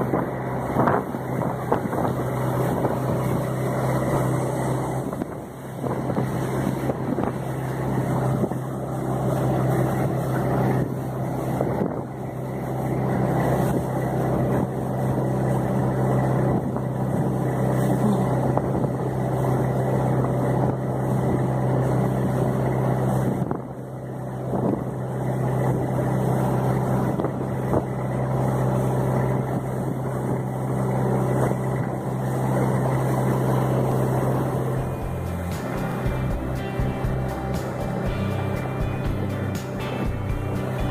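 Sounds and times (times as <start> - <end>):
boat engine drone: 0.0 - 40.9
water rushing along hull: 0.0 - 40.9.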